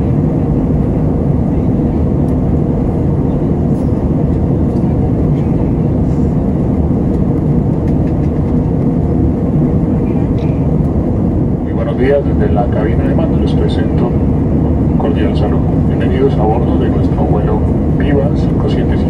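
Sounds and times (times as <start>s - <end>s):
airplane cabin noise: 0.0s - 19.0s
faint hum: 0.0s - 19.0s.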